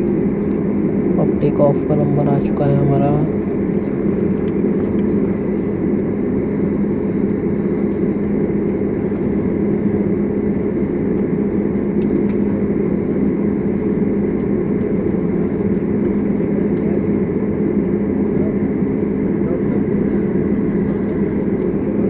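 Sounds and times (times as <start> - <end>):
jet engine cabin hum: 0.0 - 22.0.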